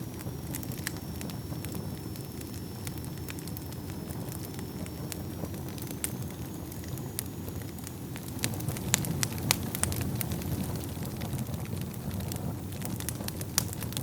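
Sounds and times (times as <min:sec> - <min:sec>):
fire popping and snapping: 0:00.0 - 0:14.0
fire rumbling: 0:00.0 - 0:14.0.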